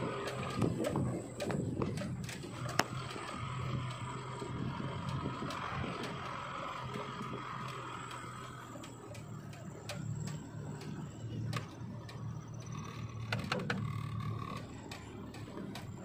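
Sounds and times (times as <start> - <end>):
car engine low hum: 0.0 - 16.0
sharp clicks and rattles: 0.0 - 16.0.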